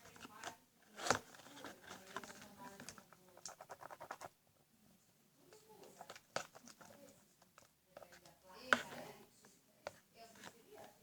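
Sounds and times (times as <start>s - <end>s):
utensil stirring slime in bowl: 0.0s - 4.4s, 5.5s - 11.0s.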